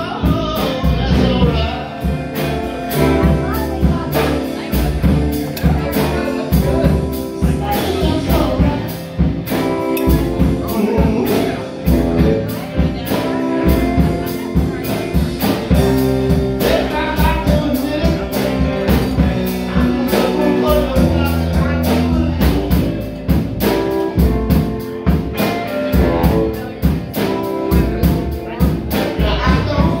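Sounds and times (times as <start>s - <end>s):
rock band playing: 0.0s - 30.0s
steady drum beat: 0.0s - 30.0s.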